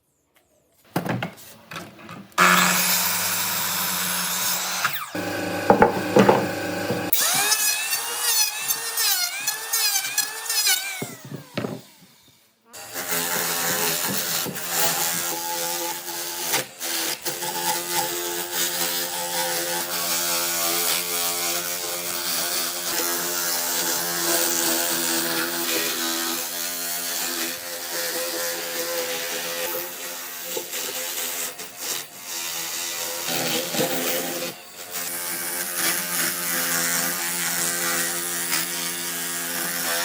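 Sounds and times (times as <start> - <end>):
power tool motor on wood: 2.4 - 40.0.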